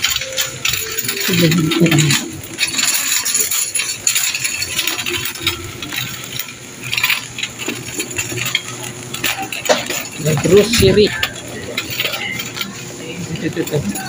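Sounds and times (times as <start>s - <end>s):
basket contents clinking and rattling: 0.0s - 14.0s.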